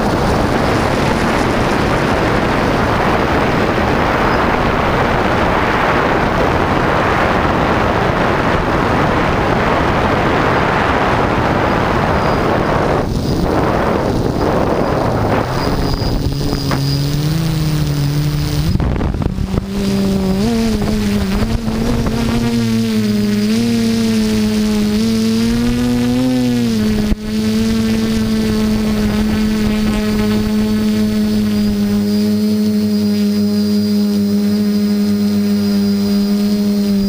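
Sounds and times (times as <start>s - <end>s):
drone propellers whirring: 0.0s - 37.0s
wind buffeting microphone: 0.0s - 37.0s.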